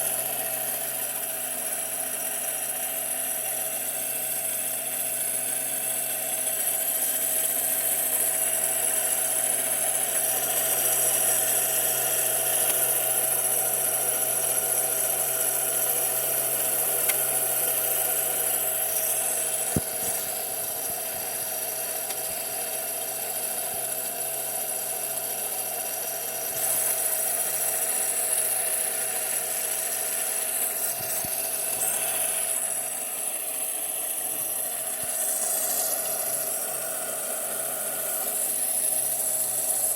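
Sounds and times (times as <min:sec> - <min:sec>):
small electric motor whirring: 0:00.0 - 0:39.9.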